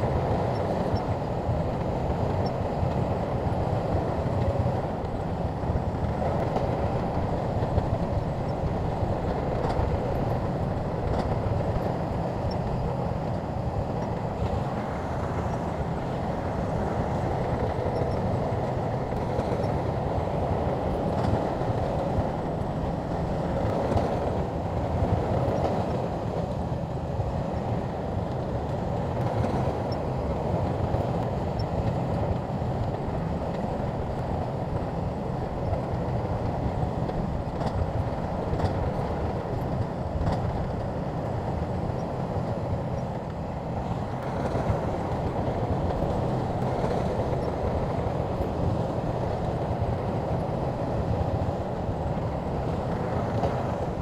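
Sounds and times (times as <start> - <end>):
bulldozer engine and tracks rumbling: 0.0 - 54.0.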